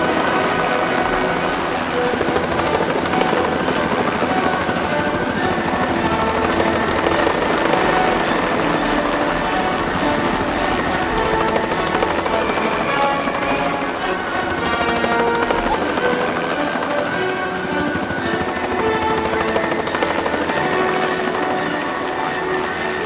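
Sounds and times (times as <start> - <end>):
helicopter rotor and engine: 0.0 - 23.0.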